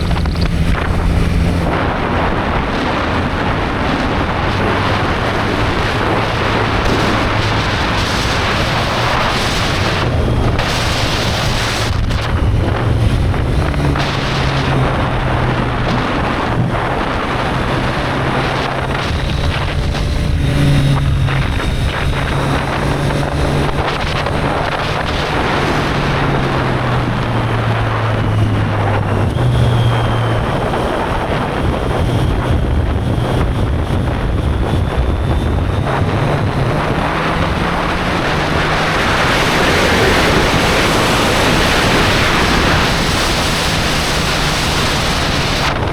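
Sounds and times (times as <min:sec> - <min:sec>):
motorcycle engine revving: 0:00.0 - 0:45.9
wind noise on microphone: 0:00.0 - 0:45.9.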